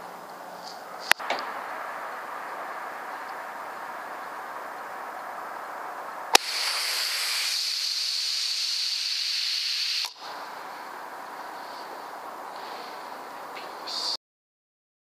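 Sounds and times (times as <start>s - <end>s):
air rifle crack: 0.6s - 5.5s, 6.3s - 13.8s
loud air hiss: 1.0s - 14.2s.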